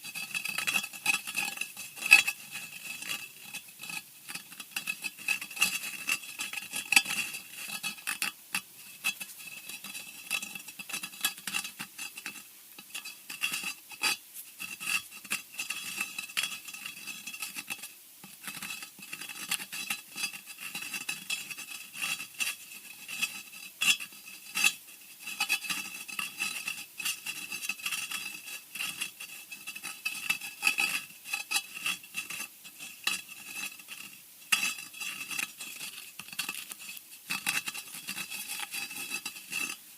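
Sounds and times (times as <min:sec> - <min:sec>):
small scrapes and clicks: 0:00.0 - 0:39.9.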